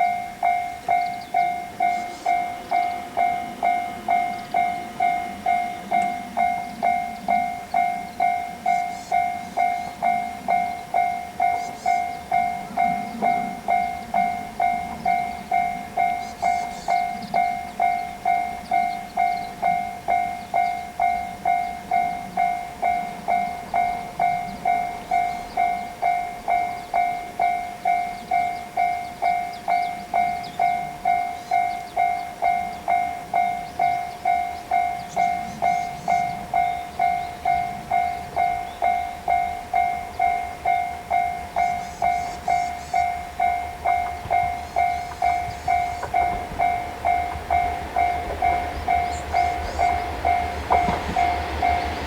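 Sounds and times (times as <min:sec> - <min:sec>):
level crossing warning bell: 0:00.0 - 0:52.0.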